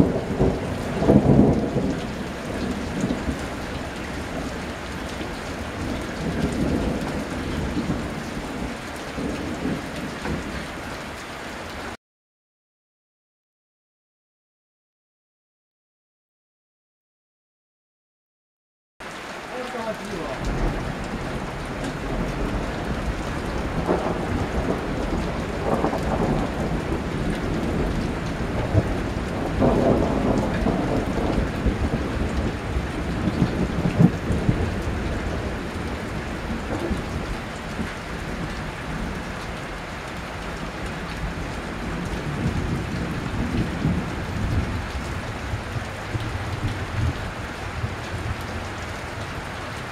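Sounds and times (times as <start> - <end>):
thunder rumbling: 0.0 - 10.8, 19.8 - 49.6
steady rain: 0.0 - 12.0, 19.0 - 49.9.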